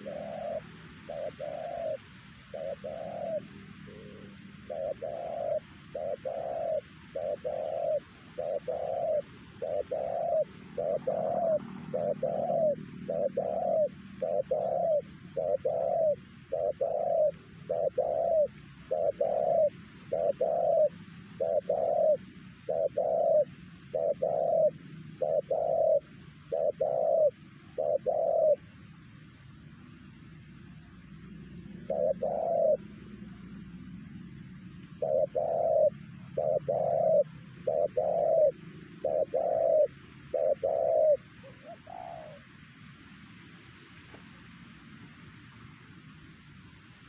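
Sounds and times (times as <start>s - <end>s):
dove cooing: 0.0s - 45.2s.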